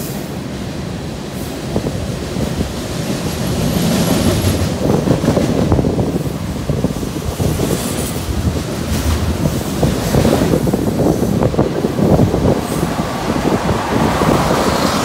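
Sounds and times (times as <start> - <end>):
train wheels clanking on track: 0.0 - 13.0
freight train rumbling past: 0.0 - 15.0.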